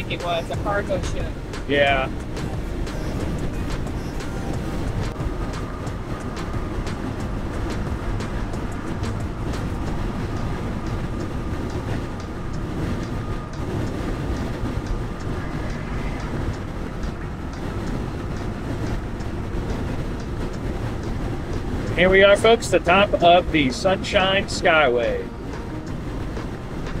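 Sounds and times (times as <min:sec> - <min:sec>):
tyre and wind rumble: 0:00.0 - 0:27.0.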